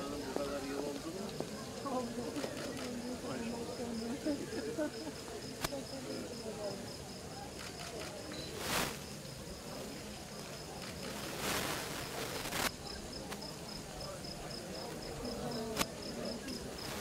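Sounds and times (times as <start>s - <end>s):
crickets chirping: 0.0s - 17.0s
murmur of voices: 0.0s - 17.0s.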